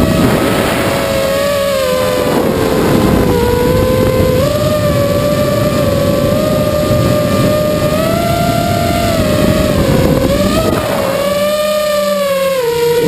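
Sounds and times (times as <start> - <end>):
drone propellers whining: 0.0 - 13.0
low rushing noise: 0.0 - 13.0.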